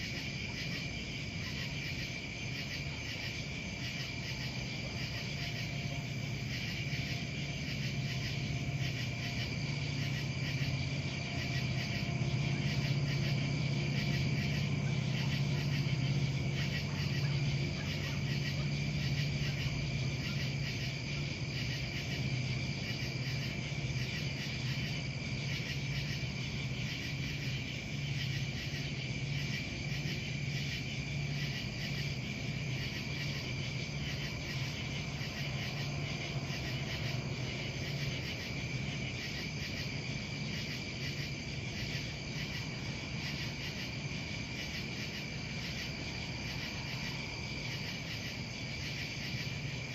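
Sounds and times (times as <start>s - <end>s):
crickets chirping: 0.0s - 49.9s
low steady hum: 0.1s - 49.9s.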